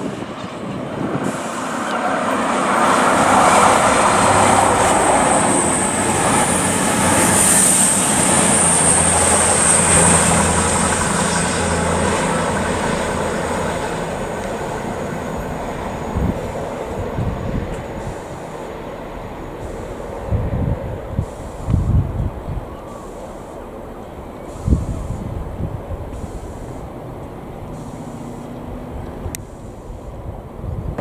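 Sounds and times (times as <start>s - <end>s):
diesel train engines droning: 0.0s - 31.0s
train wheels rumbling on rails: 0.0s - 31.0s.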